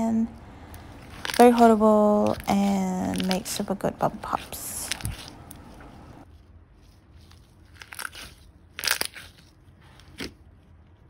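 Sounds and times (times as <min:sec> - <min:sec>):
slime crackling: 0:00.1 - 0:06.3, 0:07.0 - 0:10.4.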